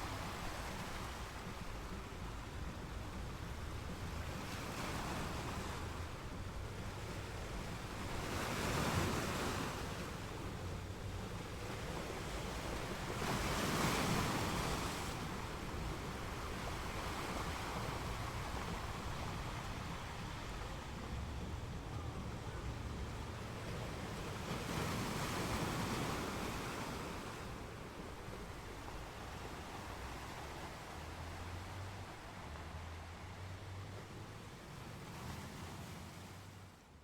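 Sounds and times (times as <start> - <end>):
ocean waves washing on shore: 0.0 - 37.0.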